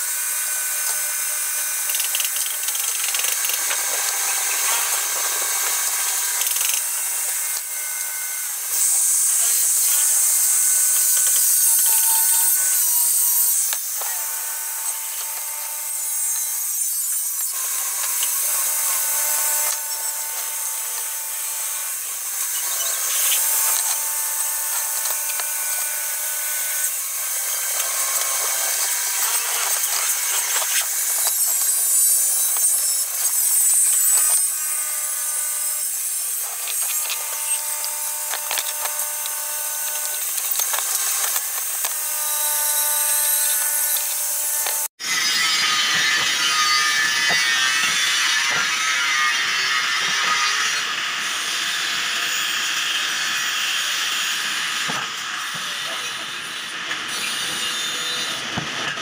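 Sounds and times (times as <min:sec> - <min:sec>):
handheld power tool whining: 0:00.0 - 0:59.0.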